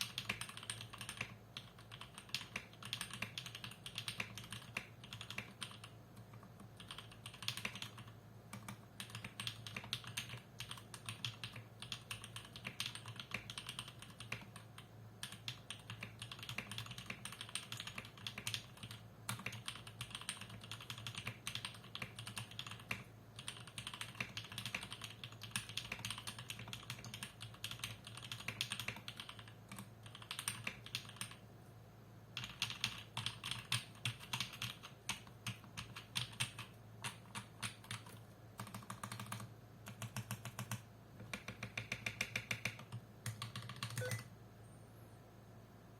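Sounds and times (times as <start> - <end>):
mechanical keyboard typing: 0.0 - 31.4, 32.4 - 44.3
faint low hum: 0.0 - 45.9.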